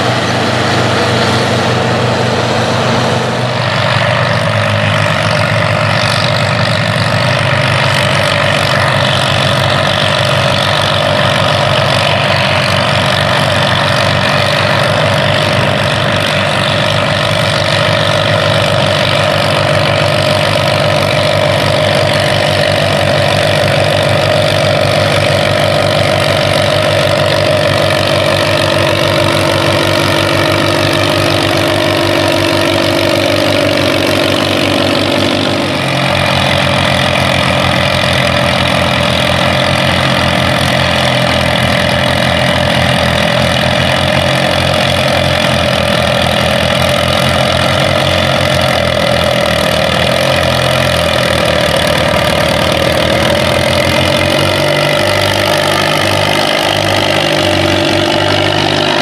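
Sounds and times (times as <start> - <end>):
tractor engines under load: 0.0 - 59.0.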